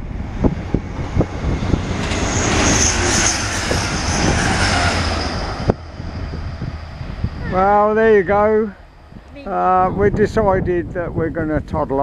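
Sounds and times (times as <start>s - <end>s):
train passing at speed: 0.0s - 11.3s
high whine: 0.0s - 11.4s
wind buffeting microphone: 0.0s - 12.0s.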